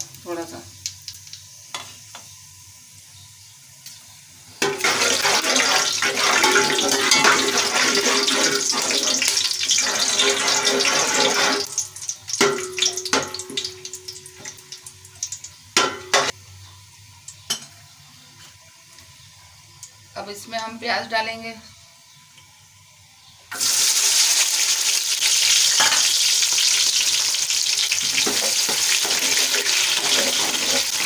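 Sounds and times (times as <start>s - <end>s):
spices sizzling in hot oil: 0.0s - 31.0s.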